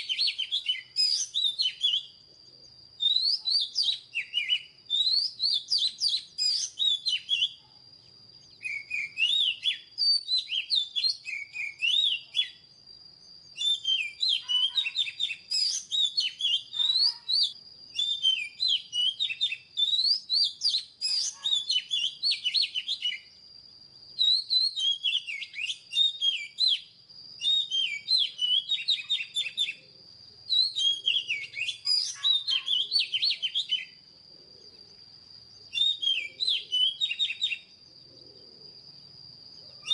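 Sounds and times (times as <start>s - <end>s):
bird singing whistles and warbles: 0.0s - 39.9s.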